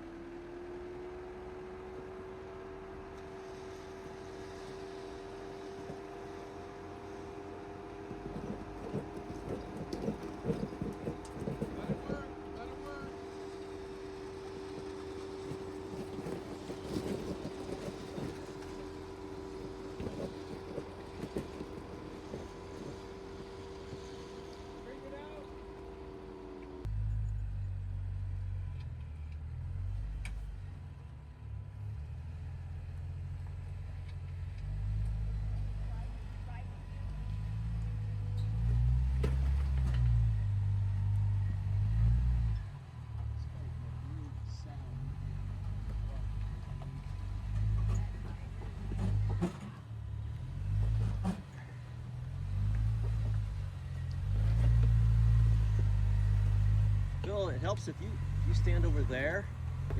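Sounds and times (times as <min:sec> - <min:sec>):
off-road vehicle engine rumbling: 0:00.0 - 0:59.9.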